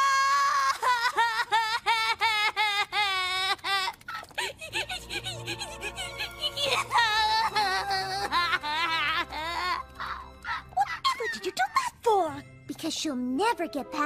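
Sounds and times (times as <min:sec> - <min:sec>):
cartoon character wailing sobs: 0:00.0 - 0:11.8.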